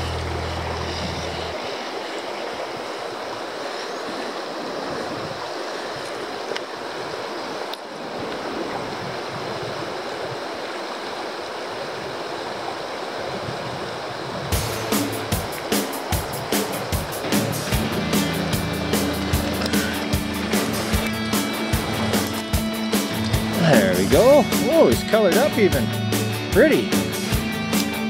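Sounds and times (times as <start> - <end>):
stream rushing over rocks: 0.0 - 25.8.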